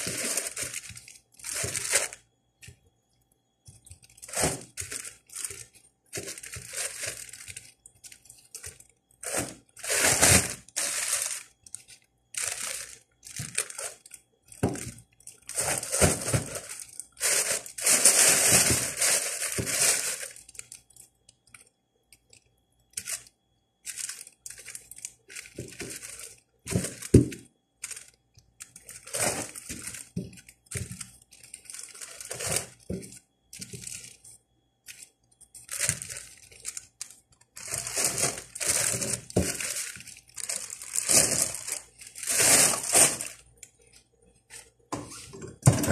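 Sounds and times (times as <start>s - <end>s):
plastic bags crinkling: 0.0s - 2.2s, 3.8s - 21.6s, 23.0s - 45.9s.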